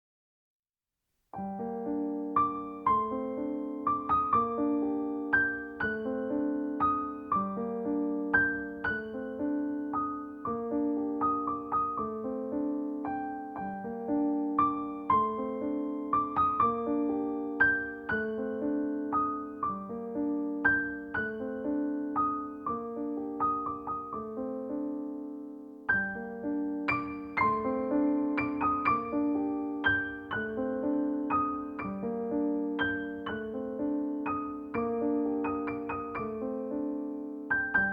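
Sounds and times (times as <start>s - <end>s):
gentle piano music: 1.3s - 37.9s.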